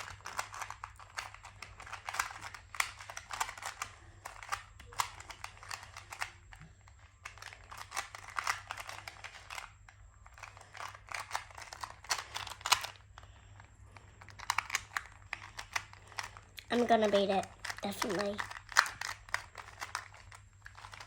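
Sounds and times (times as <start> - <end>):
puzzle cube plastic clicks: 0.0 - 21.0.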